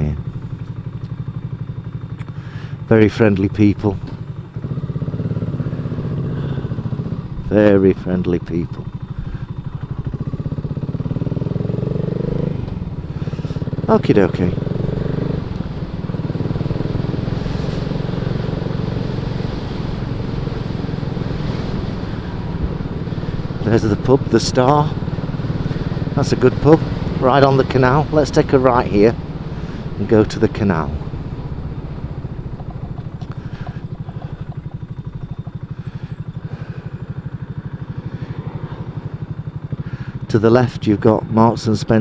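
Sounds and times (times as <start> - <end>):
single-cylinder engine running: 0.0 - 42.0.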